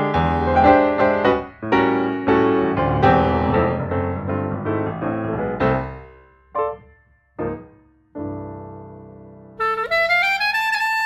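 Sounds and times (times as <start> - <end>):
piano music: 0.0 - 10.5.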